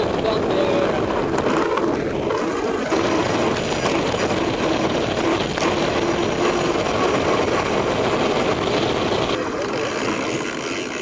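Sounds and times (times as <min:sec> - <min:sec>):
bike tyres humming on tarmac: 0:00.0 - 0:11.0
wind on microphone: 0:00.0 - 0:11.0.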